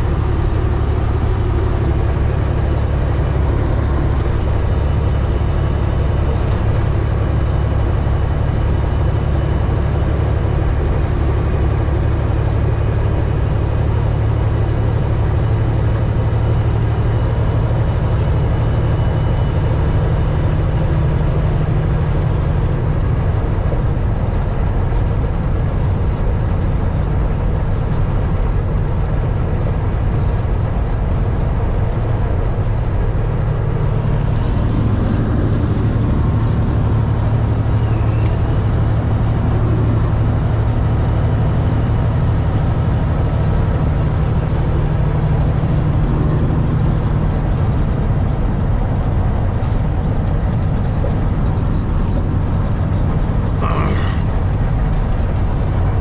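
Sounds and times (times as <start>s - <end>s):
diesel truck engine drone: 0.0s - 56.0s.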